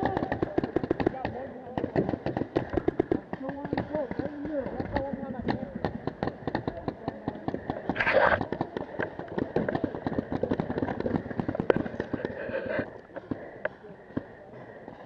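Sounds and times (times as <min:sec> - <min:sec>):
paintball markers popping: 0:00.0 - 0:14.3.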